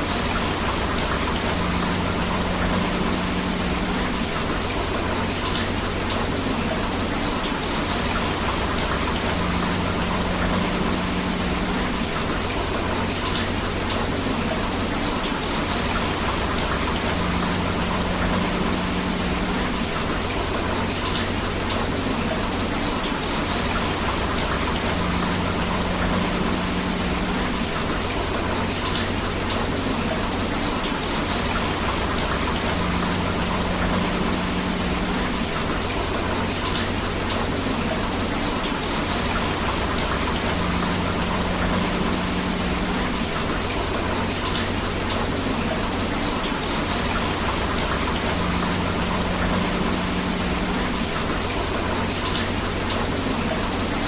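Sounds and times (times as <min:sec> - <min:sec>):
rushing river water: 0:00.0 - 0:54.0
steady rain: 0:00.0 - 0:54.0.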